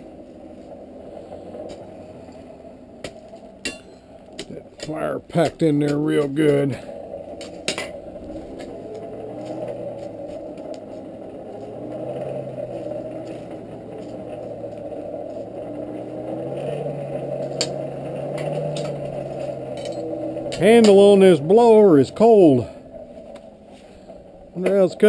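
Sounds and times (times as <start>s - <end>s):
hand-cranked blower whirring: 4.1s - 25.0s.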